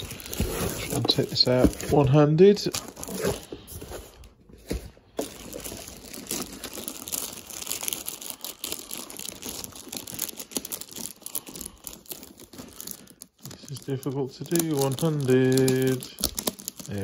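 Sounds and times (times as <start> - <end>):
plastic bag crinkling: 0.0 - 4.3, 5.0 - 17.0.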